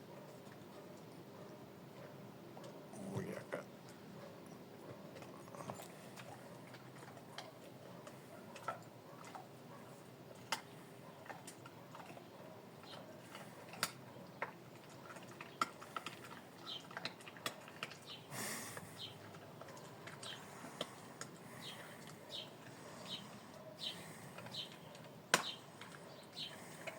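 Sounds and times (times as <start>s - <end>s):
dog eating crunchy food: 0.0s - 26.9s.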